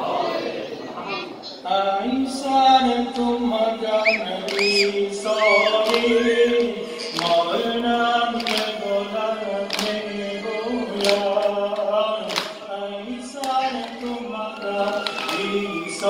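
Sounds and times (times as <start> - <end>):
man chanting into a microphone: 1.6 - 16.0.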